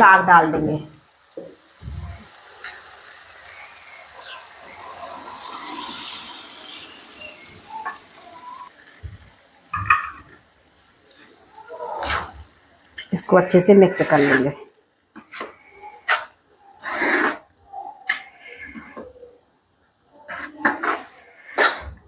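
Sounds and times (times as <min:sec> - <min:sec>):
greens sizzling in hot pan: 0:00.0 - 0:22.0.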